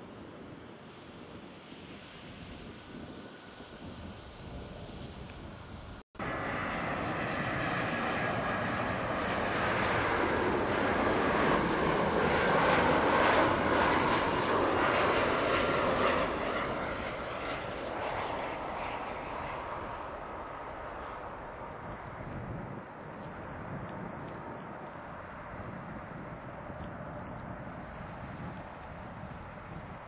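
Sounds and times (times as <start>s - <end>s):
wind noise: 0.0s - 6.0s, 7.2s - 30.0s
jet airliner passing close: 0.0s - 30.0s.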